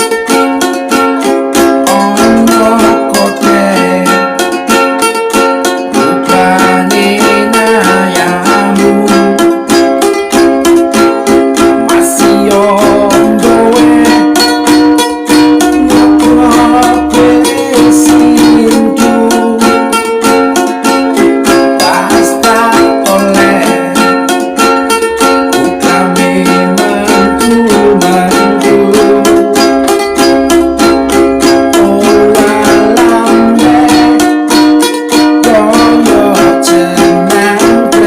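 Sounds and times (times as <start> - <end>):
ukulele strummed: 0.0 - 38.0.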